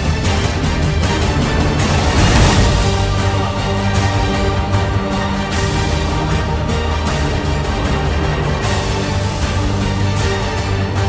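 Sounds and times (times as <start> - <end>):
soundtrack music with heavy bass: 0.0 - 11.0.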